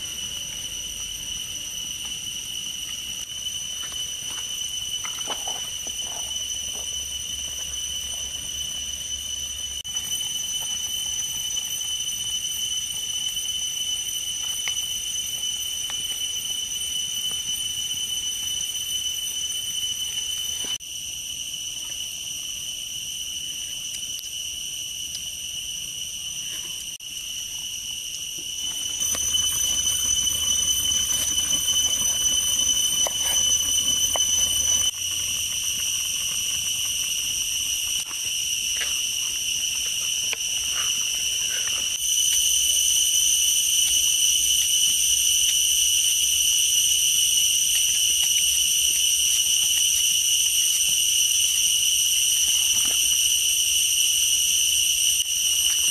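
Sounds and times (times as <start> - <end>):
insects droning high pitch: 0.0 - 55.9.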